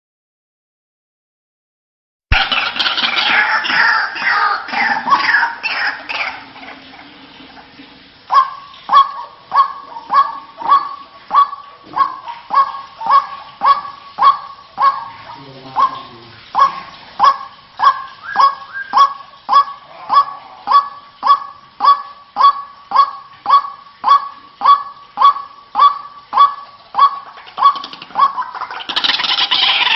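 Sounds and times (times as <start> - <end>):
dense tangle of bird calls: 2.3 - 29.9
waterhen harsh calls: 2.3 - 29.9.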